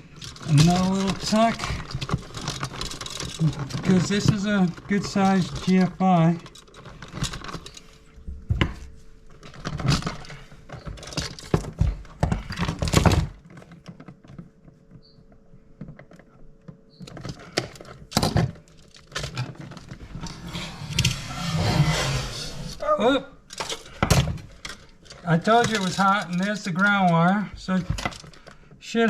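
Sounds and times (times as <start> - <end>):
hands handling electrical wires: 0.0 - 29.0.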